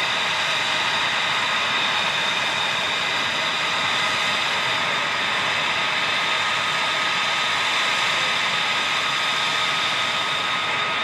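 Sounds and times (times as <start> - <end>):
jet engines idling with turbine whine: 0.0 - 11.0.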